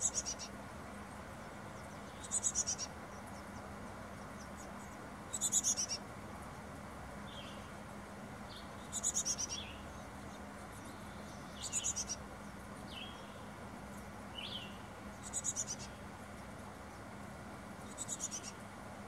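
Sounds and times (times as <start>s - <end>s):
small birds trilling: 0.0s - 18.8s.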